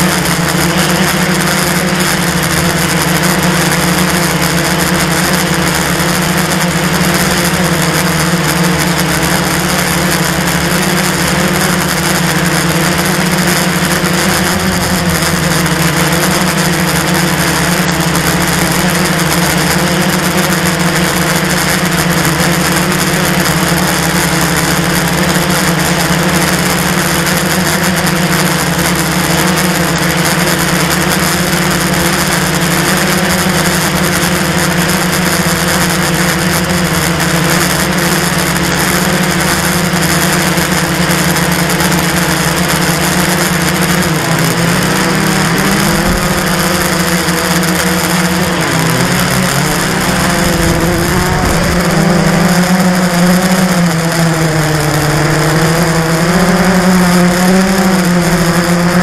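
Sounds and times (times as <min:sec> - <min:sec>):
quadcopter motors and propellers buzzing: 0:00.0 - 0:59.0.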